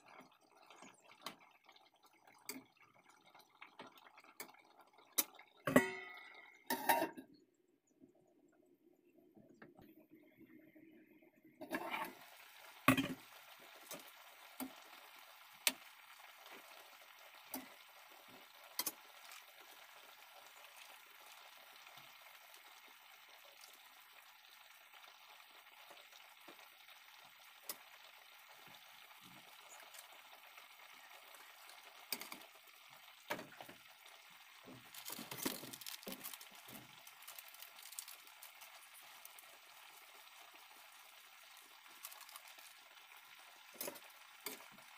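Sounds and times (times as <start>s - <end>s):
sauce sizzling with pops: 0.0s - 6.9s, 11.6s - 44.9s.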